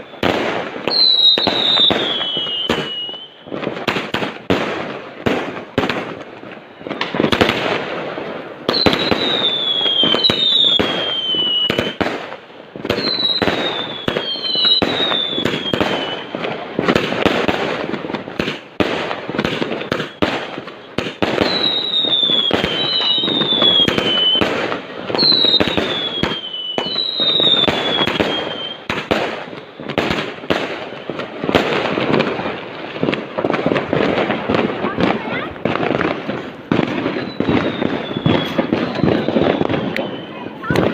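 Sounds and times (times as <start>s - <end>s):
whistling firework shells: 0.0s - 4.6s, 5.5s - 7.8s, 8.6s - 40.9s
fireworks bangs and crackles: 0.0s - 40.9s.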